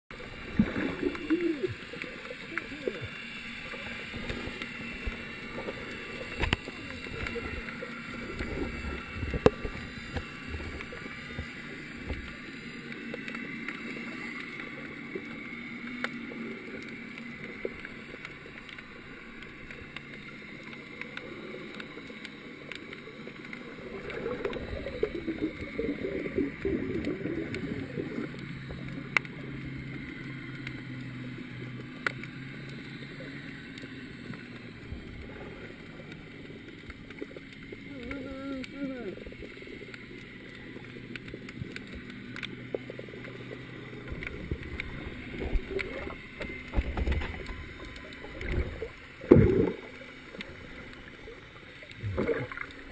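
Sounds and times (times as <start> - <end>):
crackling rush: 0.1 - 52.9
muffled underwater wash: 0.1 - 52.9.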